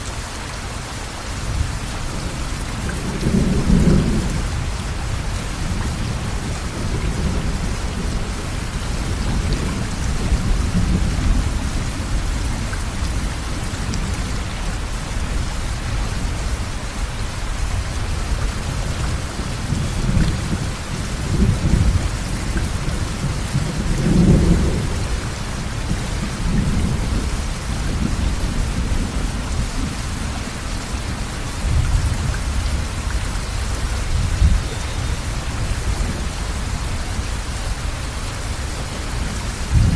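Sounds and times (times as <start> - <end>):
river rushing rumble: 0.0 - 39.9.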